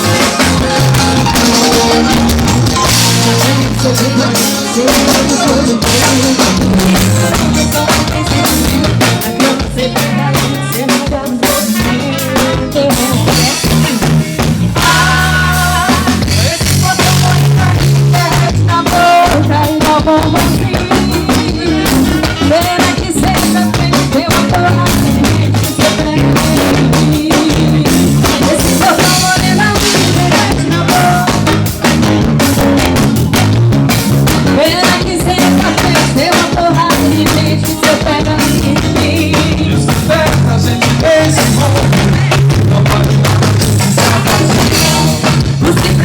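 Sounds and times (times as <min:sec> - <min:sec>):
melodic instruments: 0:00.0 - 0:42.1
drum kit with snare and rimshots: 0:00.0 - 0:46.0
pulsing bass line: 0:00.0 - 0:46.0.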